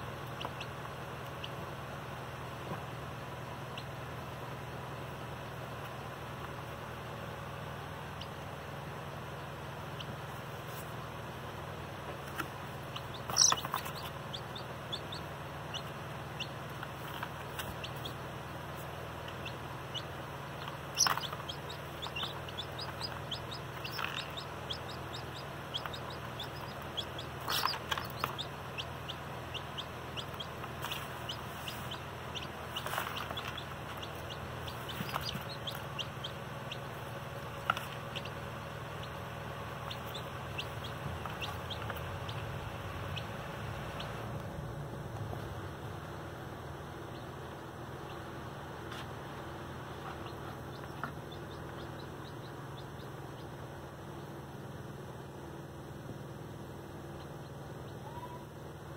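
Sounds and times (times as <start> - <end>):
baby chicks peeping: 0.0 - 58.9.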